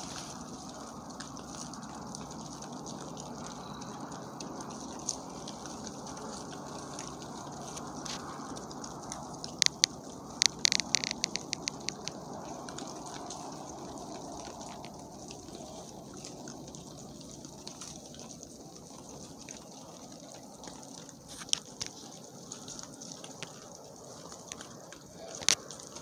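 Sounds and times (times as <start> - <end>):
hogs crunching corn: 0.0 - 26.0
low rustling hiss: 0.0 - 26.0.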